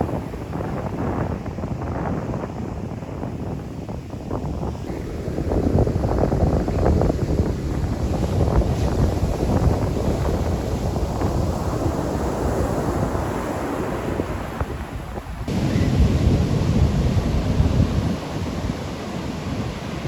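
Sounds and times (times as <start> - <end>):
ocean surf on beach: 0.0 - 20.0
wind buffeting microphone: 0.0 - 20.0.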